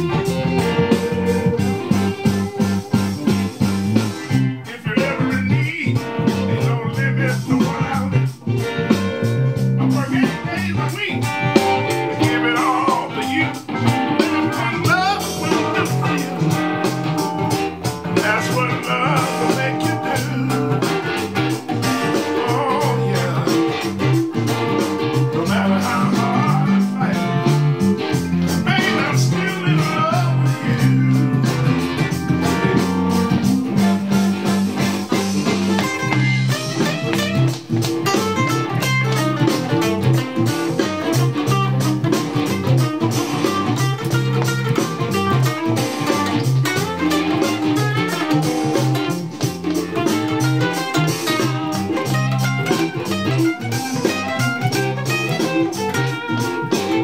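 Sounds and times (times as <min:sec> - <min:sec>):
bass line: 0:00.0 - 0:57.0
drums: 0:00.0 - 0:57.0
electric guitar solo: 0:00.0 - 0:57.0.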